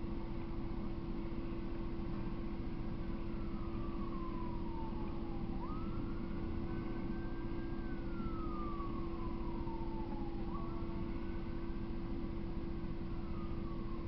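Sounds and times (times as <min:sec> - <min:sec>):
steady hum and hiss: 0:00.0 - 0:14.0
faint siren wailing: 0:00.1 - 0:14.0.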